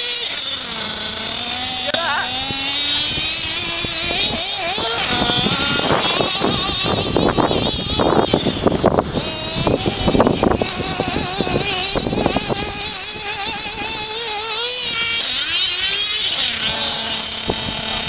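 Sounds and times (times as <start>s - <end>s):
model car engine whining: 0.0s - 18.0s.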